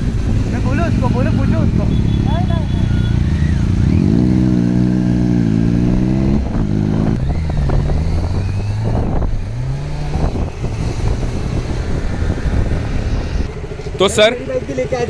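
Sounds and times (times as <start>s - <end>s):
motorcycle engines accelerating: 0.0s - 15.0s.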